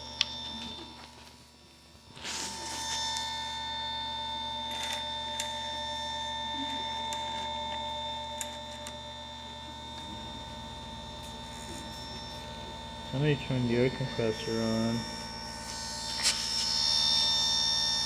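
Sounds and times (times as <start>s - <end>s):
air compressor throbbing: 0.0s - 18.0s
grinding motor whine: 0.0s - 18.0s.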